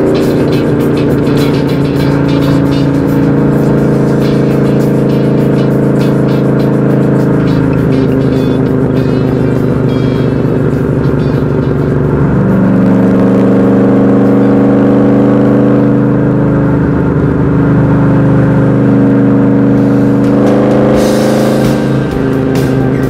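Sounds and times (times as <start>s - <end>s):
car engine and exhaust: 0.0s - 23.0s
wind and road noise: 0.0s - 23.0s.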